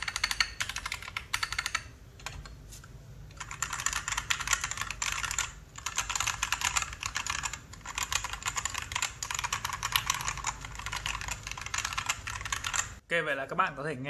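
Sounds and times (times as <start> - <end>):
mechanical keyboard typing: 0.0 - 2.6, 3.3 - 13.0.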